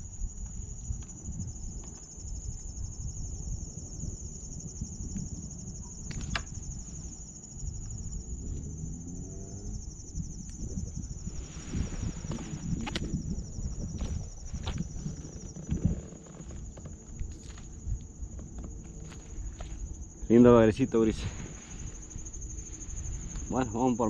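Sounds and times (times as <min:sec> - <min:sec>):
insects chorus: 0:00.0 - 0:24.0
low outdoor rumble: 0:00.0 - 0:24.0.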